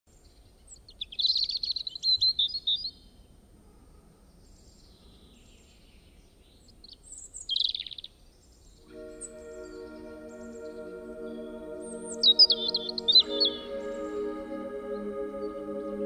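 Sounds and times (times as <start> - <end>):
songbird chirping trill: 0.1 - 3.2, 4.5 - 16.0.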